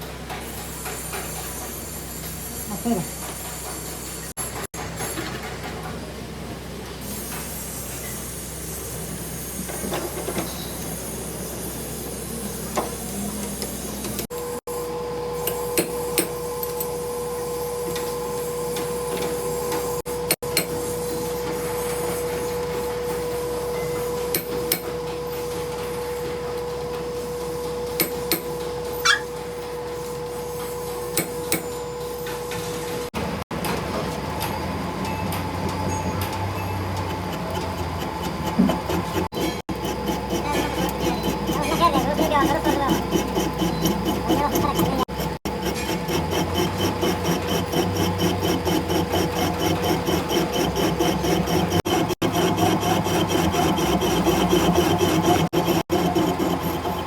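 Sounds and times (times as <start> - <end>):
workshop machinery humming: 0.0 - 57.0.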